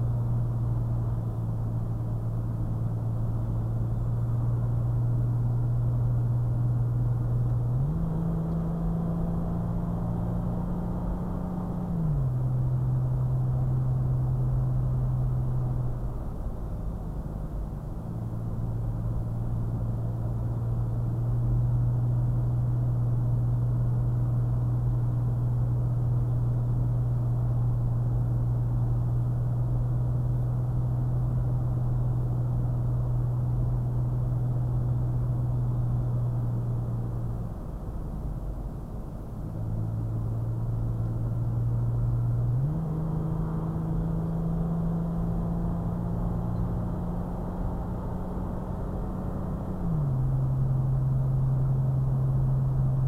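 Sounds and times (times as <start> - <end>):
car engine droning: 0.0 - 53.0
road noise inside car: 0.0 - 53.0.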